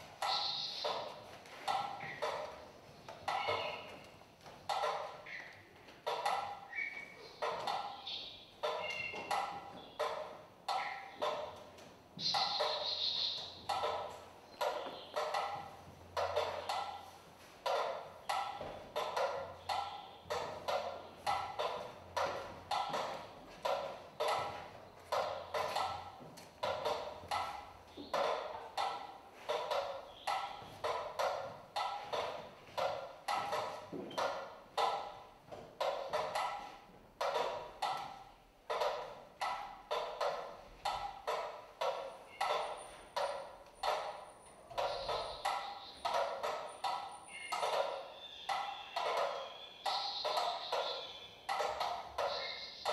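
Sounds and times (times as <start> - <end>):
metronomes ticking: 0.0 - 52.9.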